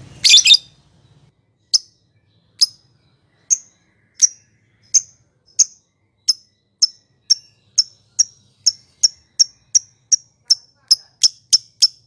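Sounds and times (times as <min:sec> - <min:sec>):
bird sharp high chirps: 0:00.0 - 0:12.0.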